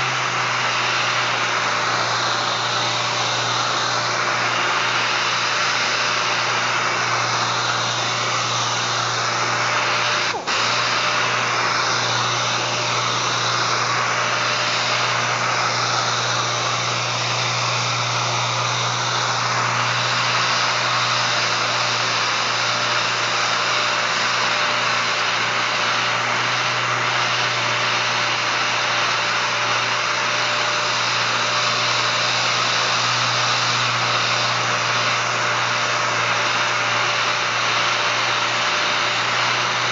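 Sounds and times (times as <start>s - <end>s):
orbital air sander running: 0.0s - 39.9s.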